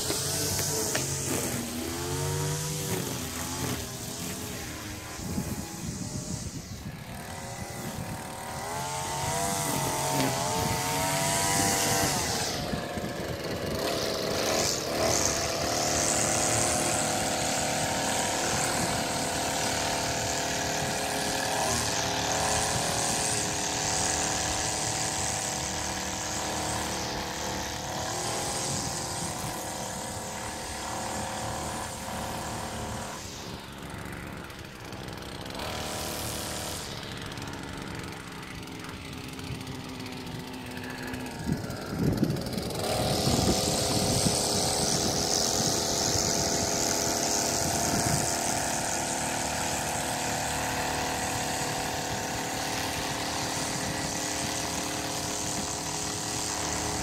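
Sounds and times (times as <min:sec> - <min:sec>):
string trimmer cutting grass: 0:00.0 - 0:57.0.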